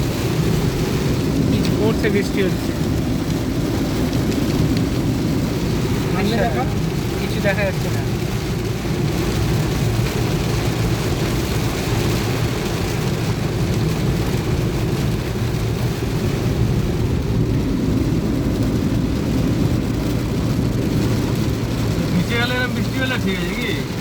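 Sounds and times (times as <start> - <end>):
heavy rain drumming on car: 0.0 - 24.0
road and engine rumble: 0.0 - 24.0.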